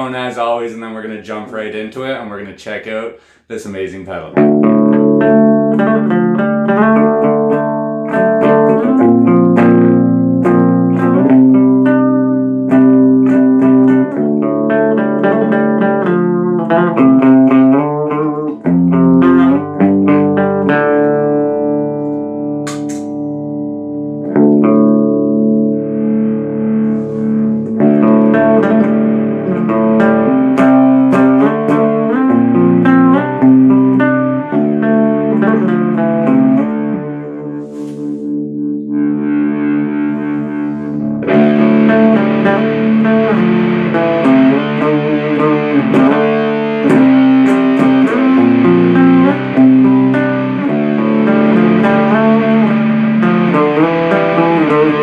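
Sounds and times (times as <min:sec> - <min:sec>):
distorted electric guitar riffs: 0:04.0 - 0:55.0.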